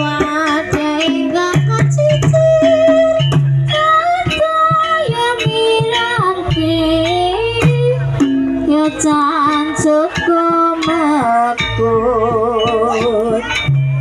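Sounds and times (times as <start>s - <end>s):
drum strokes: 0.0s - 14.0s.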